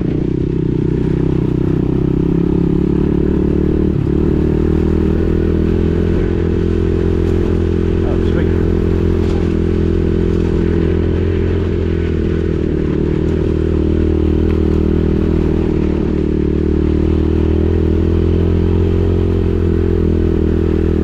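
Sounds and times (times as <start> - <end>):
small motorbike engine running: 0.0 - 21.0.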